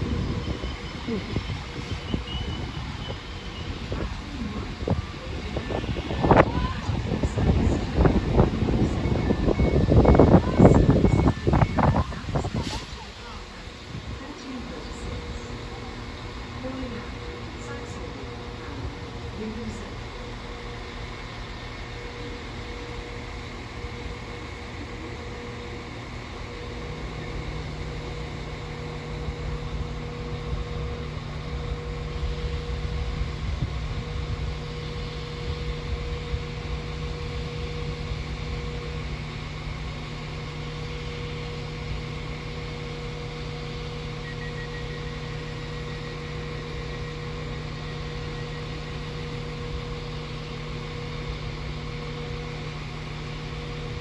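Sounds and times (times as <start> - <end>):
deep engine rumble: 0.0 - 54.0
diesel engines idling hum: 0.0 - 54.0.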